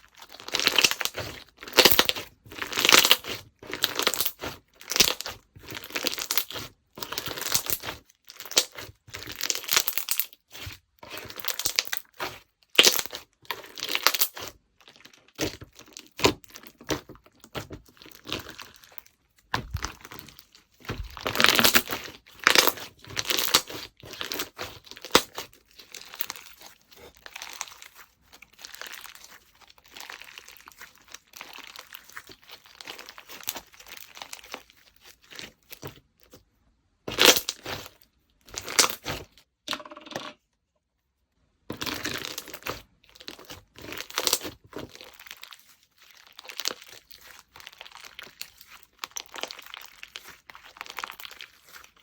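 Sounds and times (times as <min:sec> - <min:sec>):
slime squelching: 0:00.0 - 0:39.5, 0:41.6 - 0:52.0.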